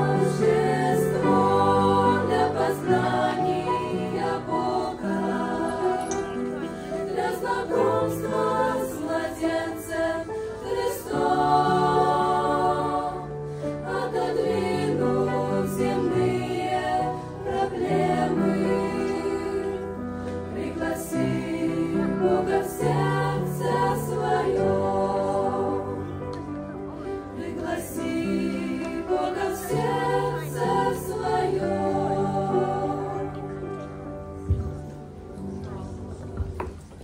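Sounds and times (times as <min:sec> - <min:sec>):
choir singing: 0:00.0 - 0:36.2.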